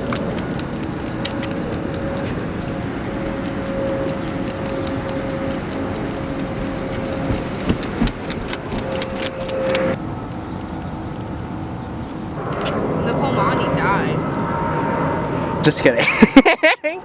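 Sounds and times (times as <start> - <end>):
vehicle running with whine: 0.0 - 16.0.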